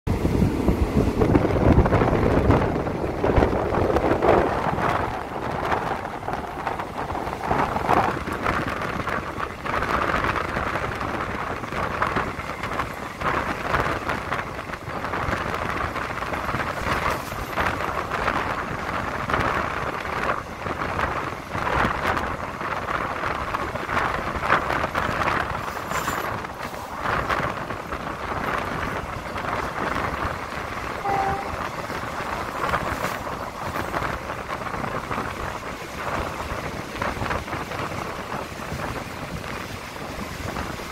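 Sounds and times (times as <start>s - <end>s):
train wheels on rails: 0.1s - 40.9s
wind buffeting microphone: 0.1s - 40.9s.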